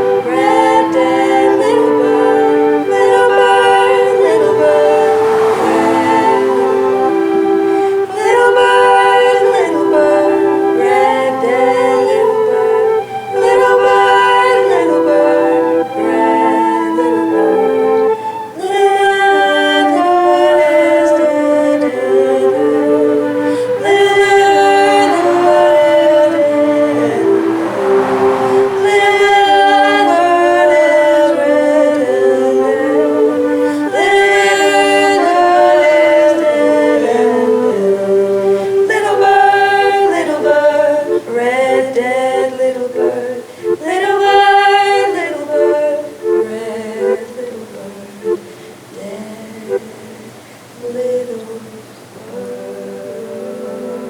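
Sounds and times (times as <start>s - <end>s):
women singing in harmony: 0.0s - 54.0s.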